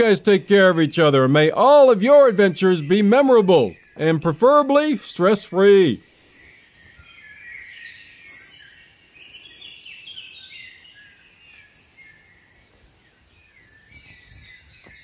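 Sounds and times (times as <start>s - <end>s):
small birds chirping and trilling: 0.0s - 15.0s.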